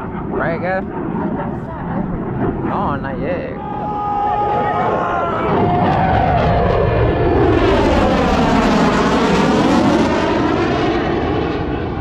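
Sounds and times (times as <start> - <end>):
low-flying airplane passing overhead: 0.0 - 12.0.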